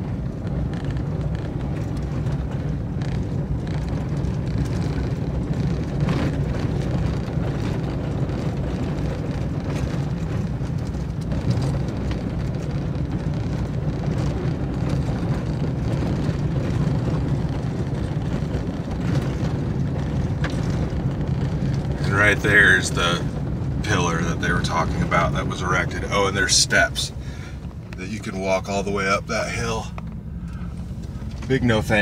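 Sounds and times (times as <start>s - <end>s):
engine rumble: 0.0s - 32.0s
tyres on gravel: 0.1s - 32.0s.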